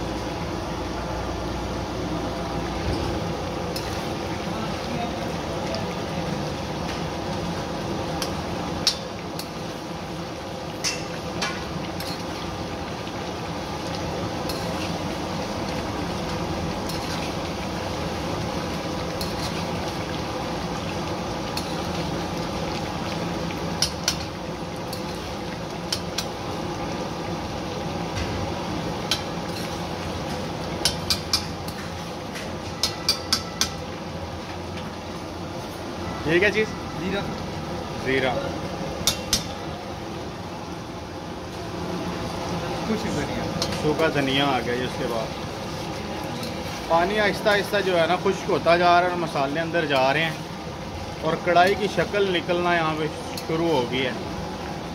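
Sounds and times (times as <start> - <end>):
gravy bubbling in pan: 0.0 - 54.9.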